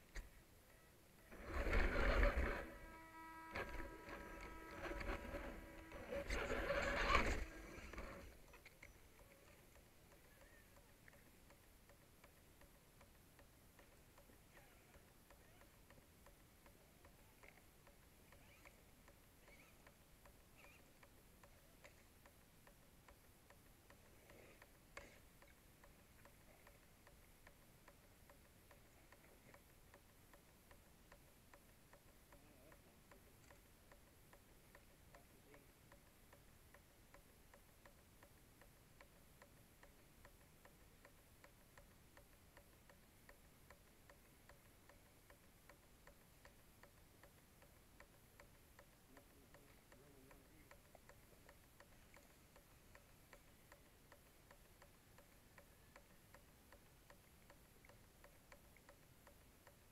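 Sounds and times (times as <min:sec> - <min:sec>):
faint regular ticking: 0:00.0 - 0:59.9
faint steady tone: 0:00.0 - 0:59.9.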